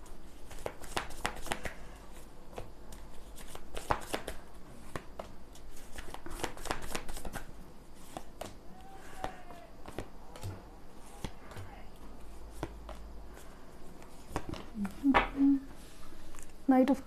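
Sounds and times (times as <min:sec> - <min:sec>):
cards shuffled and dealt: 0:00.3 - 0:15.4.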